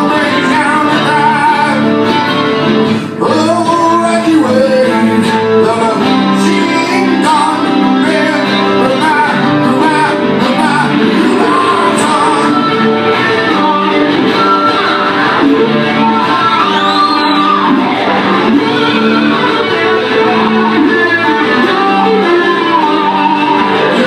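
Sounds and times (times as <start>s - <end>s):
acoustic guitars playing: 0.0s - 24.0s.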